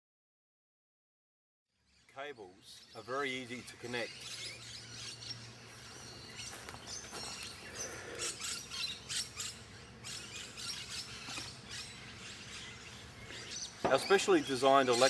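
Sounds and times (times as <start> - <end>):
birds chirping: 1.8 - 15.0.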